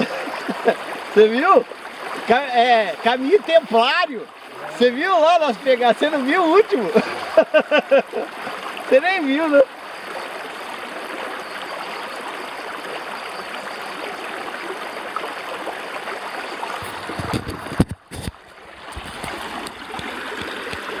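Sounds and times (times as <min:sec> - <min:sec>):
river water rushing over rocks: 0:00.0 - 0:07.4, 0:08.0 - 0:21.0.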